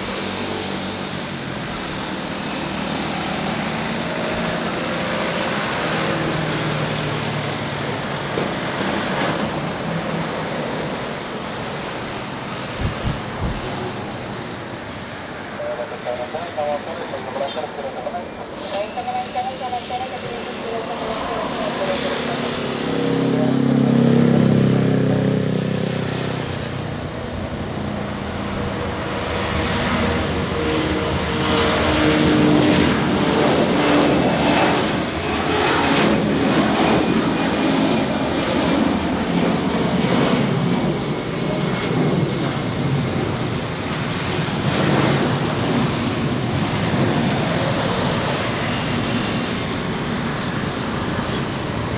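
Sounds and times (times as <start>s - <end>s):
jet aircraft roar at takeoff: 0.0s - 51.9s.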